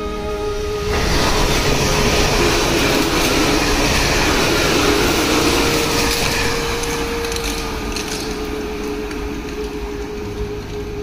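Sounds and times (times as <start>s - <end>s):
train motor whine: 0.0s - 11.0s
train wheels rushing: 0.0s - 11.0s.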